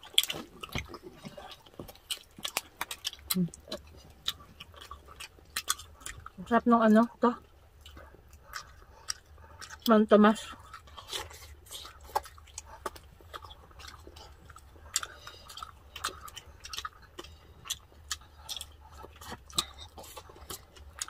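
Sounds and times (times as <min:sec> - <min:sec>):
crunchy chewing: 0:00.0 - 0:21.0
low steady hum: 0:00.0 - 0:21.0.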